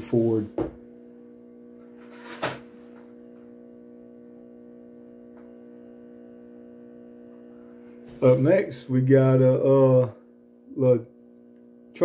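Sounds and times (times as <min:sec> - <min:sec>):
turntable motor humming: 0:00.0 - 0:12.0.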